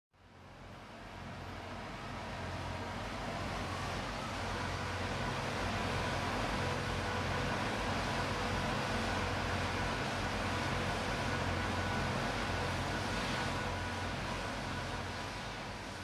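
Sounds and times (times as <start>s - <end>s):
construction machinery engines droning: 0.2s - 16.0s.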